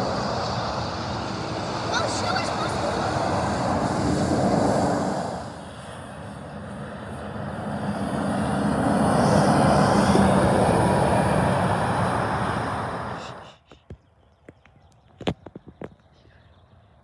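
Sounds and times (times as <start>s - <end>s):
low engine drone: 0.0s - 13.6s
trucks passing on highway: 0.0s - 16.4s.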